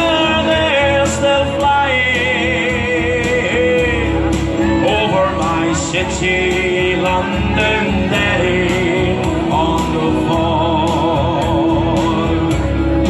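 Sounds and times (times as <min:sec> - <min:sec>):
country backing music: 0:00.0 - 0:13.0
man singing into a microphone: 0:00.0 - 0:13.0.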